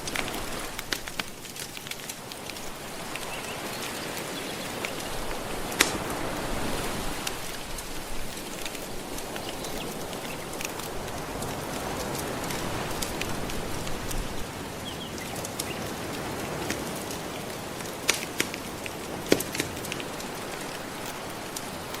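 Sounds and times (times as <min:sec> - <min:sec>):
gentle ocean waves: 0:00.0 - 0:22.0
wood fire crackling: 0:00.0 - 0:22.0.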